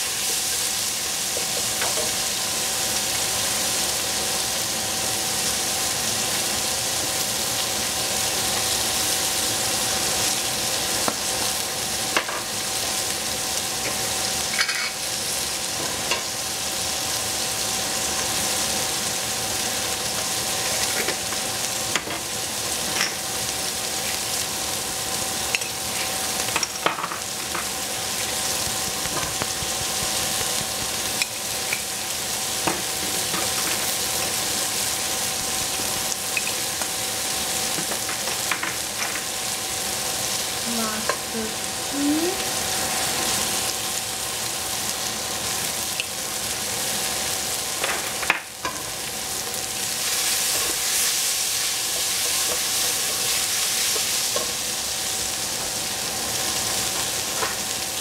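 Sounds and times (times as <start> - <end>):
onions sizzling in a pot: 0.0 - 58.0.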